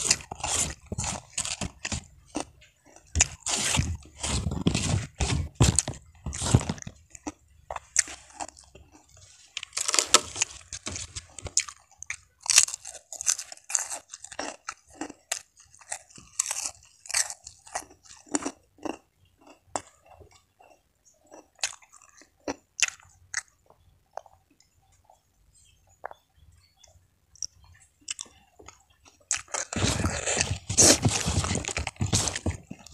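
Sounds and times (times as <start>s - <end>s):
person crunching crisp food: 0.0s - 24.4s, 28.1s - 32.9s.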